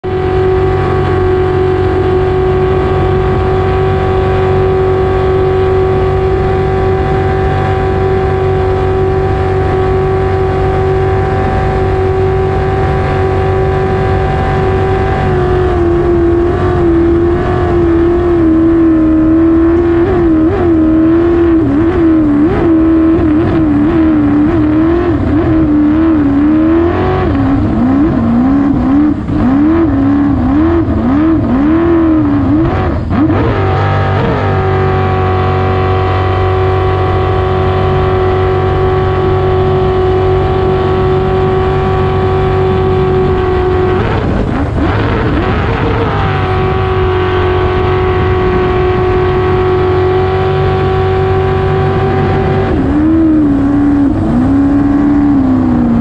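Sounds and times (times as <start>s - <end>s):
jet boat engine running hard: 0.0s - 56.0s.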